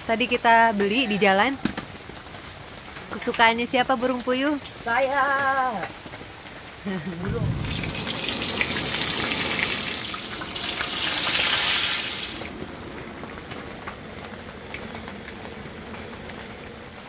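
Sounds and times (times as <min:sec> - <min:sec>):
food deep-frying in oil: 0:00.0 - 0:17.0.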